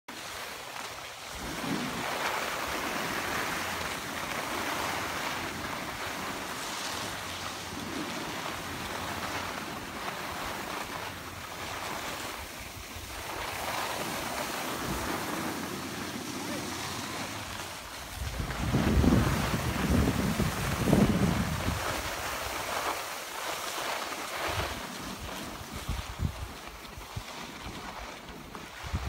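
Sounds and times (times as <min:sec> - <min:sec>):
skis scraping over snow: 0:00.1 - 0:29.0
wind buffeting microphone: 0:01.4 - 0:23.0, 0:24.3 - 0:29.0.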